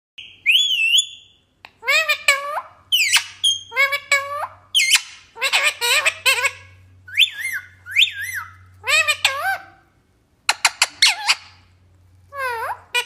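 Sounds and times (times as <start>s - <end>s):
parrot calling: 0.2s - 13.0s.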